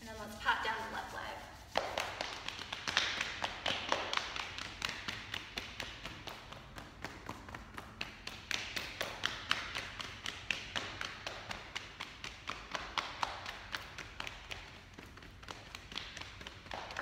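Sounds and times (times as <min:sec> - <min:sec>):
hands patting legs: 0:01.7 - 0:17.0.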